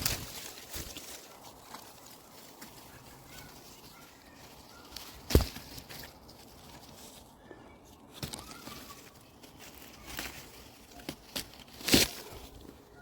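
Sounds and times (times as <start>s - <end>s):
rustling steps and crinkles: 0.0s - 13.0s.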